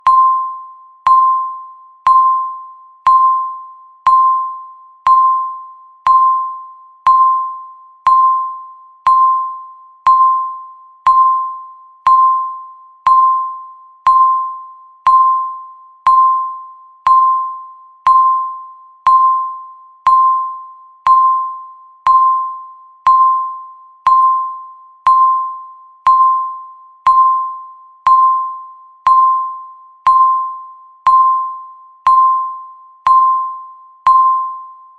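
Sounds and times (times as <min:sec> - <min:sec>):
electronic timer ticking: 0:00.0 - 0:34.6.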